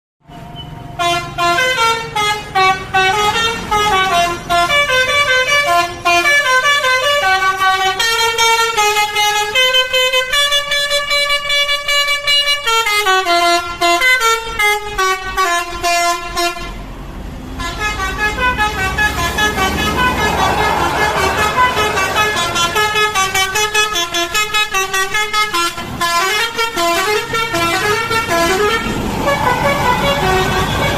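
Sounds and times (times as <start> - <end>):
multi-tone bus horn melody: 0.3 - 30.9.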